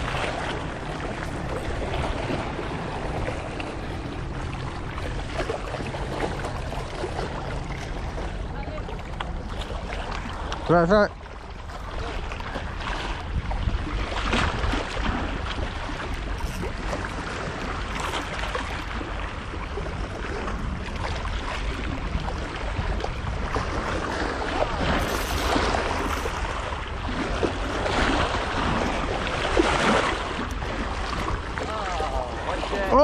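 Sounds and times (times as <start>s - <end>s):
choppy sea water rushing: 0.0s - 33.0s
wind buffeting microphone: 0.0s - 33.0s.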